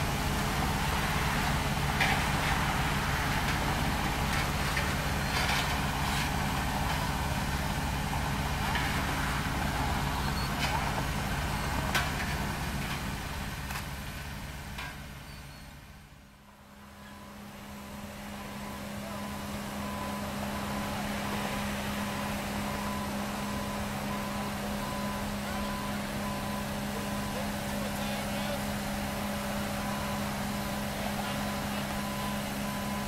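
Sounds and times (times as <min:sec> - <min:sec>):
paving machinery engines running: 0:00.0 - 0:33.0.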